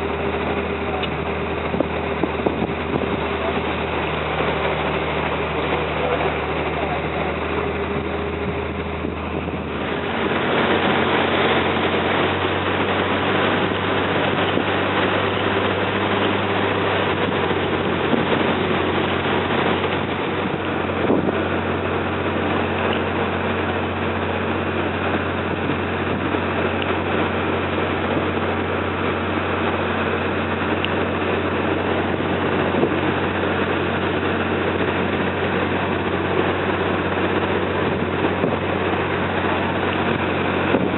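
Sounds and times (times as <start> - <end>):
boat engine humming: 0.0 - 40.9
rushing water and wind: 0.0 - 40.9.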